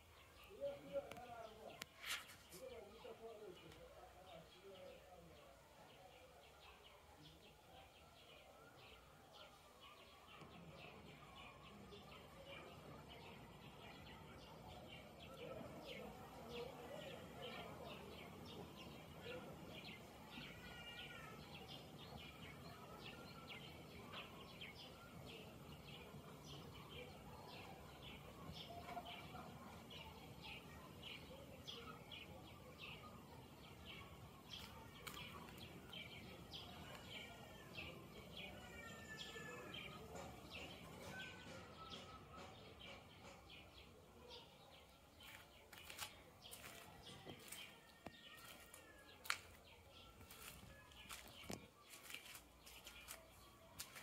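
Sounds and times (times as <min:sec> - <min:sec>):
low background noise: 0:00.0 - 0:54.0
birds chirping: 0:06.7 - 0:54.0.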